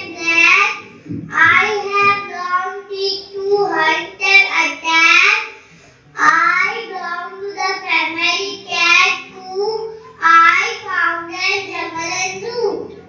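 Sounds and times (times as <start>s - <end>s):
child singing into microphone: 0.0s - 5.5s, 6.2s - 12.9s
quiet backing tune: 0.0s - 13.0s.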